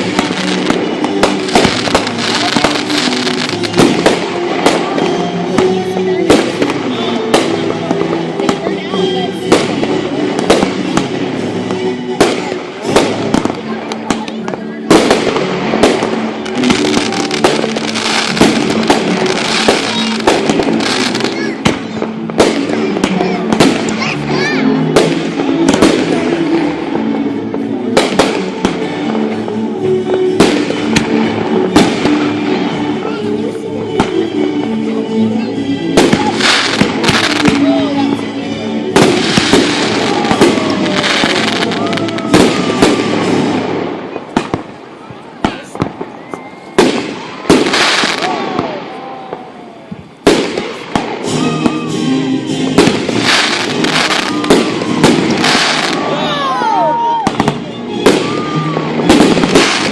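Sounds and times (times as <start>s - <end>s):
fireworks exploding: 0.0s - 59.9s
music with long held notes: 0.0s - 59.9s.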